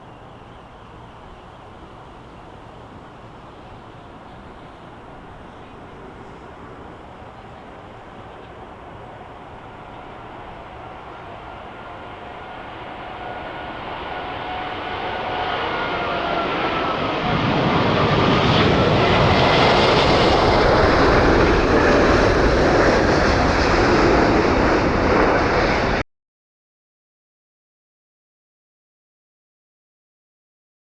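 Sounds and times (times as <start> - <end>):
jet engine whine: 0.0 - 26.0
jet roar overhead: 0.0 - 26.0.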